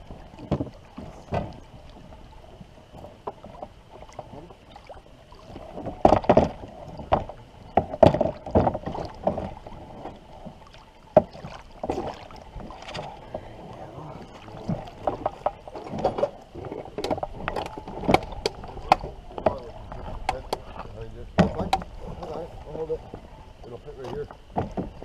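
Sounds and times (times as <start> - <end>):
canoe paddles and gear knocking: 0.0 - 25.0.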